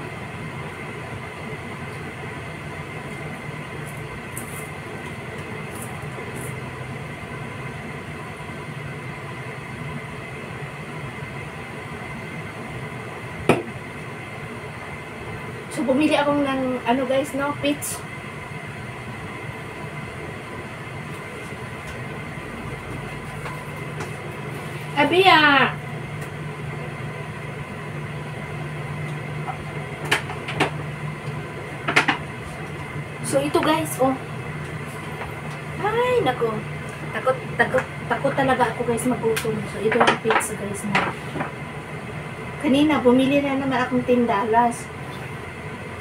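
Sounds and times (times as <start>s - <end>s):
machine hum with high whine: 0.0s - 46.0s.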